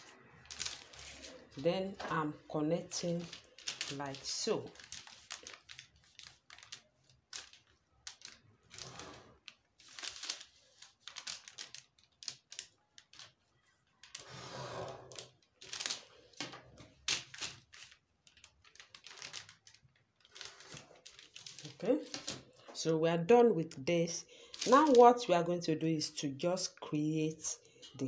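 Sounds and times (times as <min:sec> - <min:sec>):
paper rustling: 0:00.0 - 0:22.9, 0:24.4 - 0:25.3.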